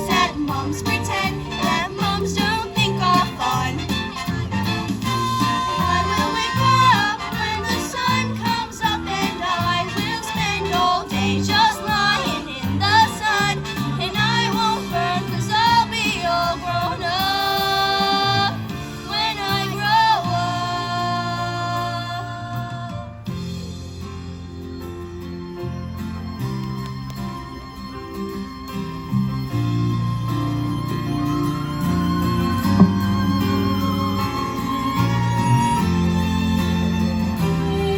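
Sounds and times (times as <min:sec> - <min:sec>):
backing accompaniment: 0:00.0 - 0:21.6, 0:24.5 - 0:37.9.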